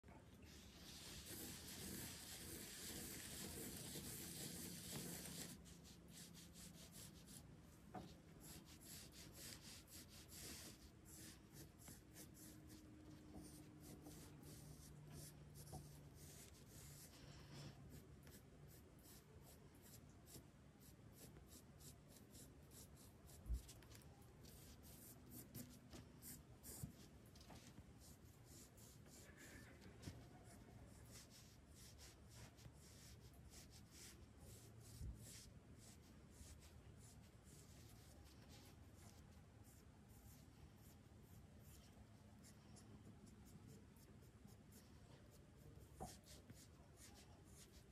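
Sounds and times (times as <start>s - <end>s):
pencil scratching on paper: 0.5s - 7.4s, 8.0s - 47.9s.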